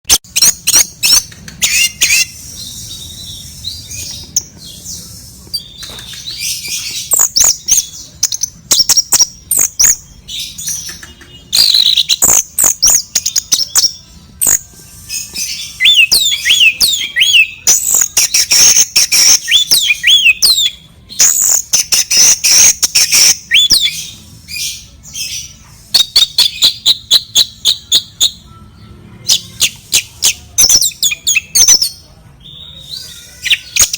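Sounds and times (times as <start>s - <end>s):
bird chirping and squawking: 0.3s - 28.5s, 29.2s - 33.9s.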